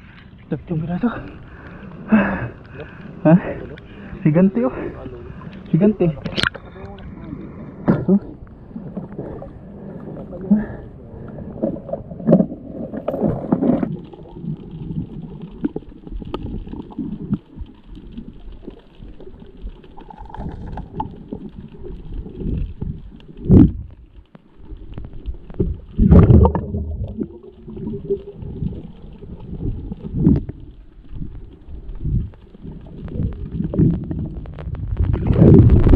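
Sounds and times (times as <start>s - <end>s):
muffled underwater rumble: 0.0s - 35.9s
water gurgling: 0.0s - 35.9s.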